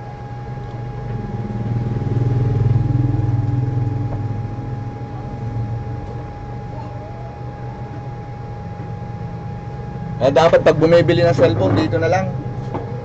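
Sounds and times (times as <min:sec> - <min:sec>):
engine running: 0:00.0 - 0:13.0
thin high-pitched whine: 0:00.0 - 0:13.0.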